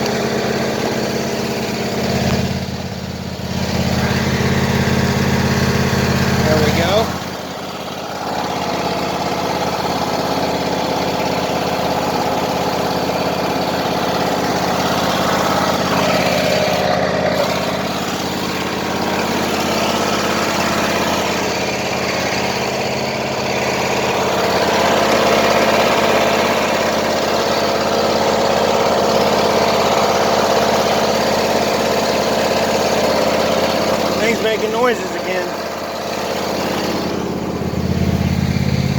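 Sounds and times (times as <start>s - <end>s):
lawn tractor engine running: 0.0s - 38.9s.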